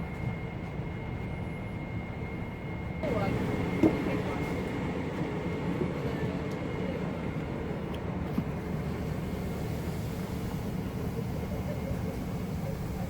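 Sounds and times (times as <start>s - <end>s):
airliner cabin noise: 0.0s - 13.0s.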